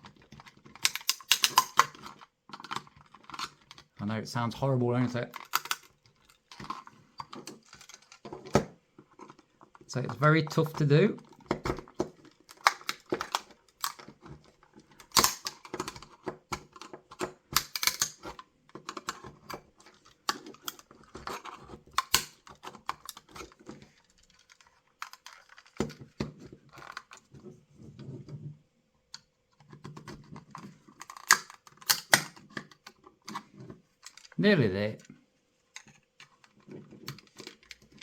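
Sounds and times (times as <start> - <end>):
plastic cracking and snapping: 0.0 - 4.0, 5.2 - 27.3, 29.2 - 34.4, 35.0 - 38.0
plastic creaking and scraping: 0.0 - 38.0.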